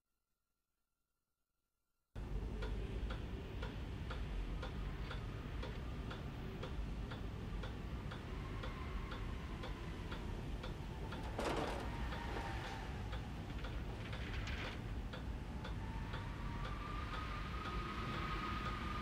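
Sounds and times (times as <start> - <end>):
clock ticking: 2.5 - 18.8.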